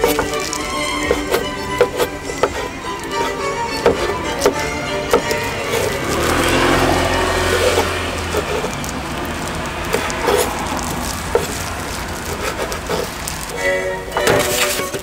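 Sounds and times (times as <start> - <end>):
vehicle rumbling past: 0.0 - 14.3
street noise: 0.0 - 15.0.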